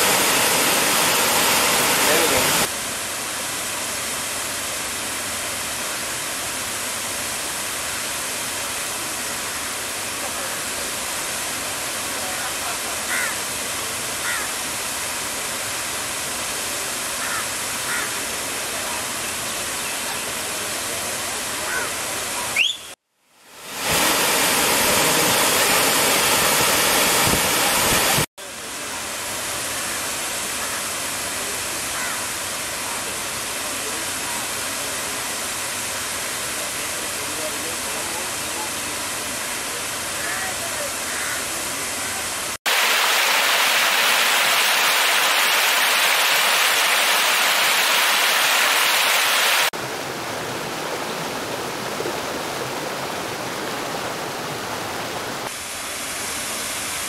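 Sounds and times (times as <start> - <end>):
close rush of falling water: 0.0 - 57.0.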